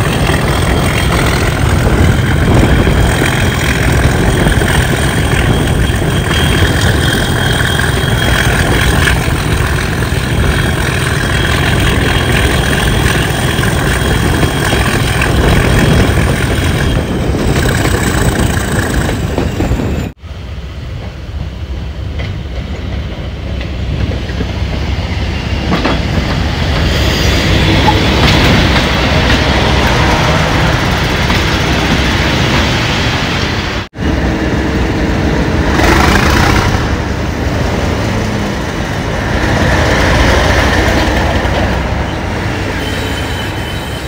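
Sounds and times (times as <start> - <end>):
diesel locomotive engine working hard: 0.0 - 44.0.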